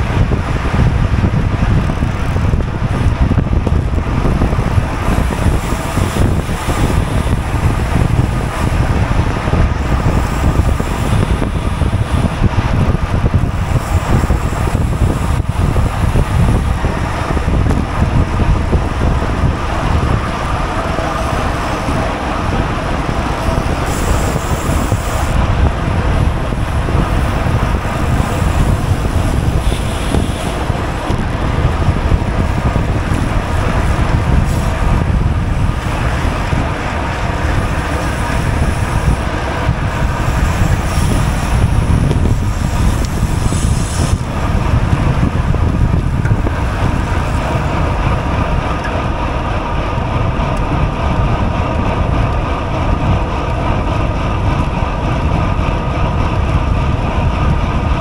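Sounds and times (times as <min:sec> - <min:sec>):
road and tyre noise: 0:00.0 - 0:58.0
wind buffeting microphone: 0:00.0 - 0:58.0.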